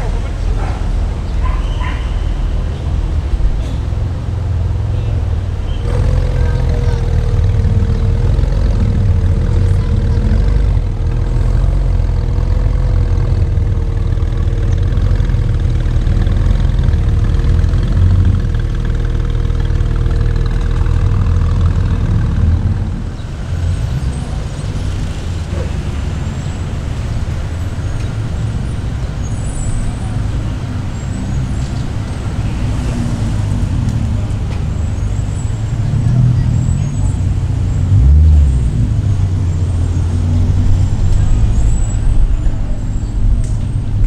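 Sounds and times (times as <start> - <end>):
car engine idling: 3.0 - 44.0.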